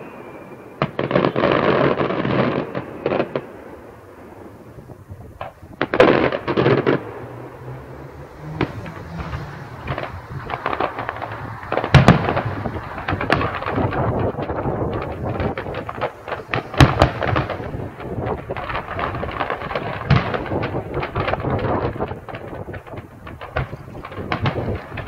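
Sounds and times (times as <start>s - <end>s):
fireworks crackling: 0.0s - 25.0s
loud firework bangs: 0.0s - 25.0s.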